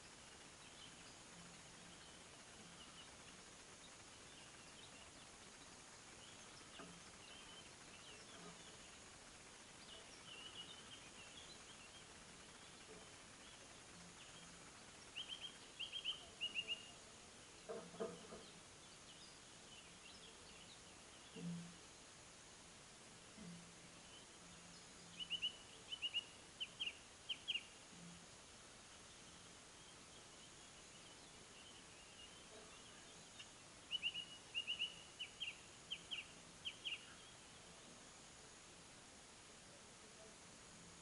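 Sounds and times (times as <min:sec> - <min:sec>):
songbirds calling: 0:00.0 - 0:41.0.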